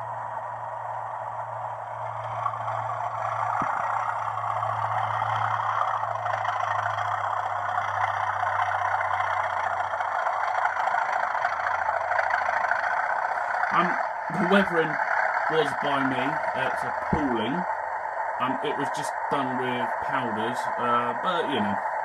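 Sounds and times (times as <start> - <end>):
diesel engine sound from small speaker: 0.0 - 22.0
steady low hum: 0.0 - 22.0.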